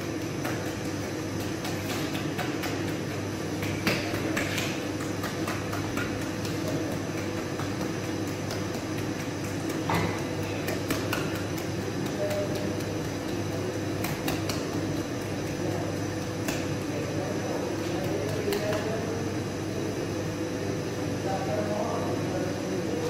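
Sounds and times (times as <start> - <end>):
machinery hum and rumble: 0.0 - 23.0.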